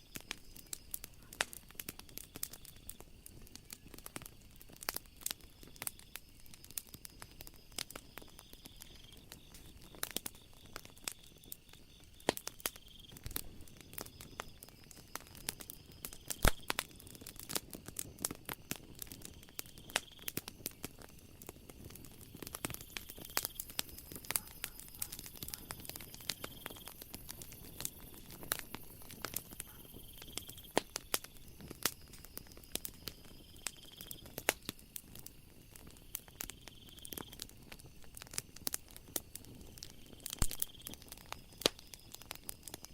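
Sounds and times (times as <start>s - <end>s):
insects calling: 0.0s - 42.9s
wood fire crackling and popping: 0.0s - 42.9s.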